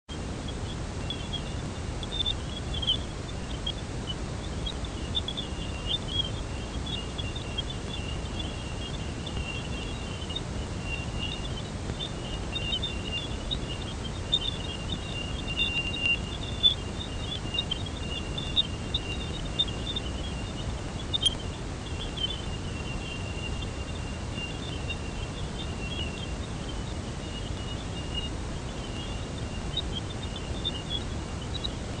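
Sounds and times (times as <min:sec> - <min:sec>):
high chirps and blips: 0:00.1 - 0:32.0
steady hiss: 0:00.1 - 0:32.0.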